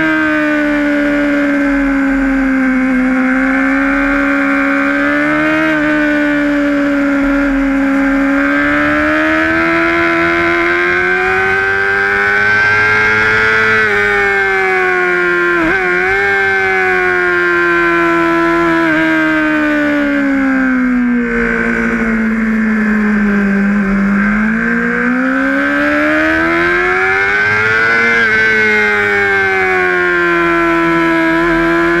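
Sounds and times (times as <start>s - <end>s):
motorcycle engine at high revs: 0.0s - 32.0s.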